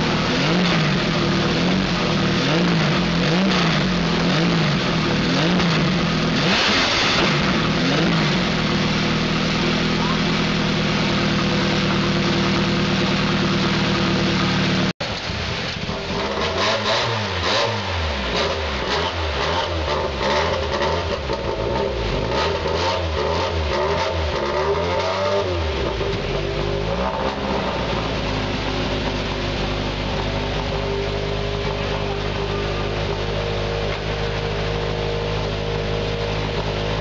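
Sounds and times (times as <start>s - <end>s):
car engine revving: 0.0s - 37.0s
rally car engine idling: 0.0s - 37.0s.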